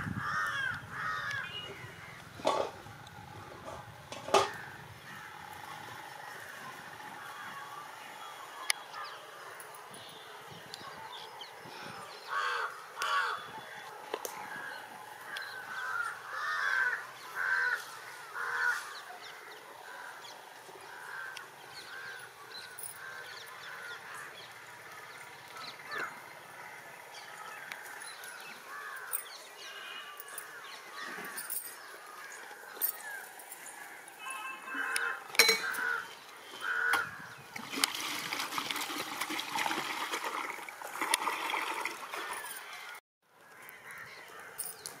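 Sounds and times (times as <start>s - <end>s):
birds calling: 0.0s - 37.6s.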